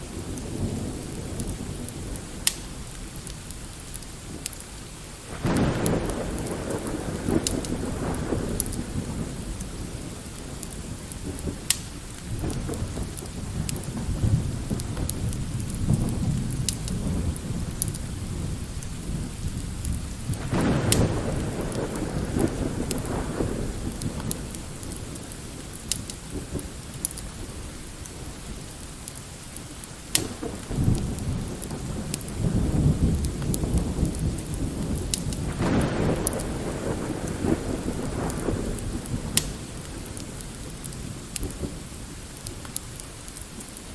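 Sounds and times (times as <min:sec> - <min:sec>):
light rain: 0:00.0 - 0:43.9
wood fire crackling: 0:00.0 - 0:43.9
distant thunder rolling: 0:05.3 - 0:29.1, 0:30.0 - 0:42.7.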